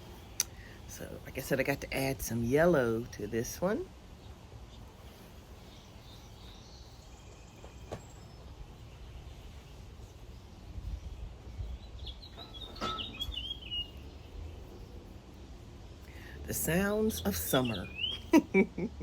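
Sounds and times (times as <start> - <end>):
low rumble of breeze: 0.0 - 19.0
songbirds chirping: 0.0 - 19.0.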